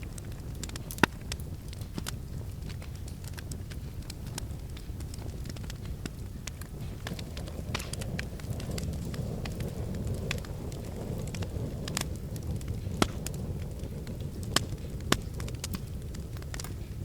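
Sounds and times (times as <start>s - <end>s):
fire burning rumble: 0.0s - 17.0s
fire snapping and popping: 0.0s - 17.0s.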